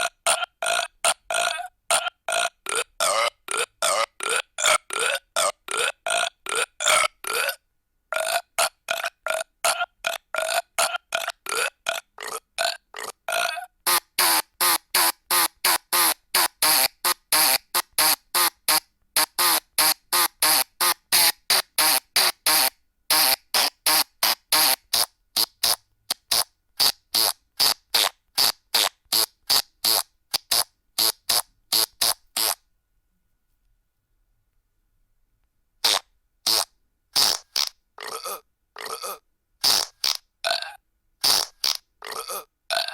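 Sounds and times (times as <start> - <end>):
burp and fart sound effects: 0.0 - 32.6, 35.8 - 42.9.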